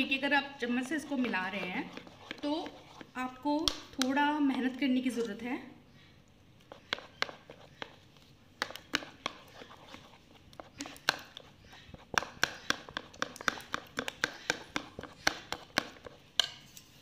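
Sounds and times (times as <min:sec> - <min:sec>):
spoon beating batter in bowl: 0:00.0 - 0:05.4, 0:06.3 - 0:17.0.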